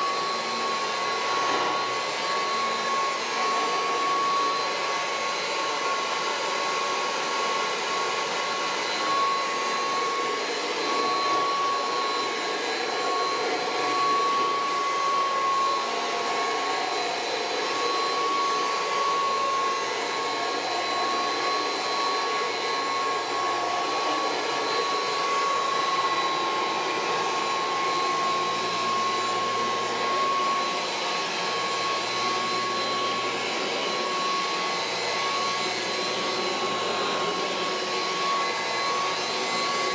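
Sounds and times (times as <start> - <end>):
vacuum cleaner whine: 0.0 - 39.9.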